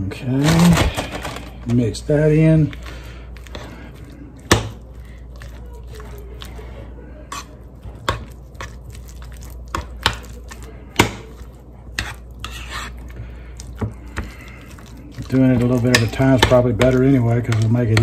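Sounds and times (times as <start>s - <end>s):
fork stirring thick mixture: 0.4s - 18.0s.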